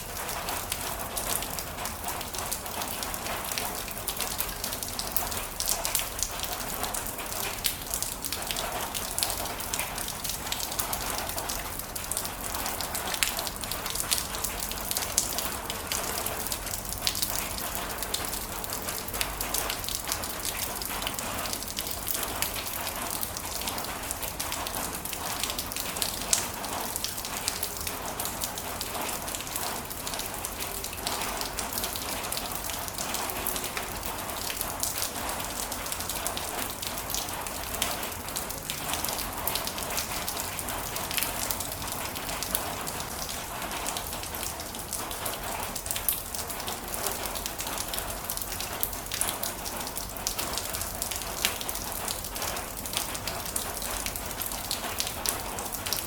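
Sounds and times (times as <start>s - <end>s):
heavy rain on hard surface: 0.0s - 56.0s.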